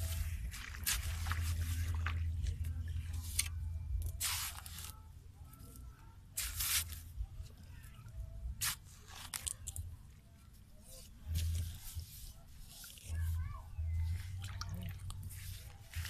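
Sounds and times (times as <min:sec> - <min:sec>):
wet clay squelching strokes: 0:00.0 - 0:05.8, 0:06.4 - 0:16.0.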